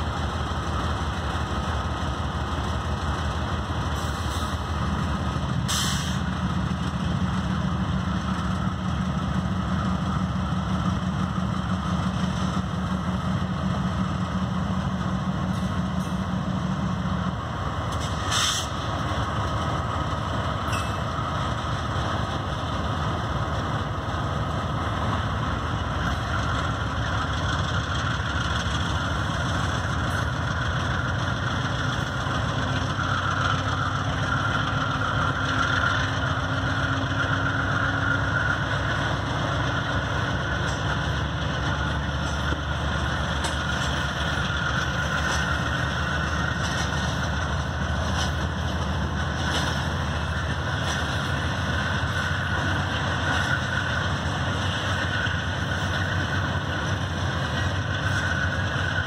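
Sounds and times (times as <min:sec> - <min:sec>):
diesel locomotive engines: 0:00.0 - 0:59.0
rail cars rolling past: 0:00.0 - 0:59.0.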